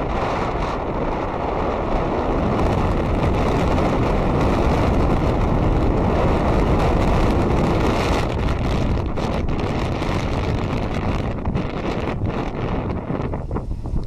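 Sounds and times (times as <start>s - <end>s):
road noise: 0.0s - 14.0s
wind rush on microphone: 0.0s - 14.0s.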